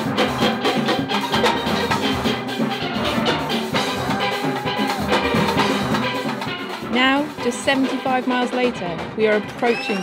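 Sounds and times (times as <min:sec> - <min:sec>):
drums: 0:00.0 - 0:10.0
steelpans playing a tune: 0:00.4 - 0:10.0.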